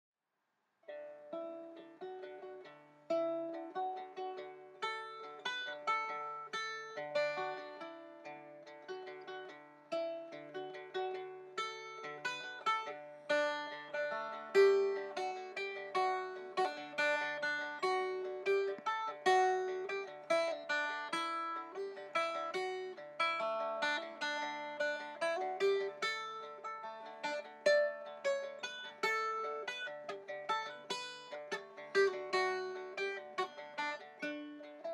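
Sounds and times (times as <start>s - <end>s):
plucked dulcimer melody: 0.9s - 34.9s.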